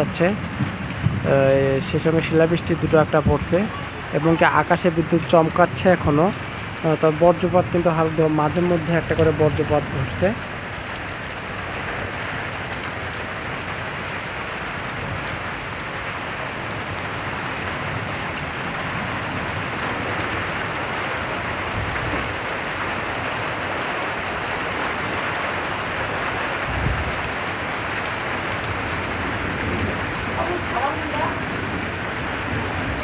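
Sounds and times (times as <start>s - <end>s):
rain falling on leaves: 0.0s - 33.0s.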